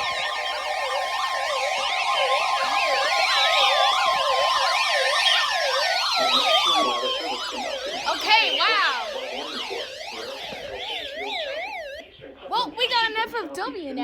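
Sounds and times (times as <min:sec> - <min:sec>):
siren-style alert tones sweeping: 0:00.0 - 0:12.0
slower falling tones: 0:00.0 - 0:12.0
steady high tone: 0:00.0 - 0:12.0.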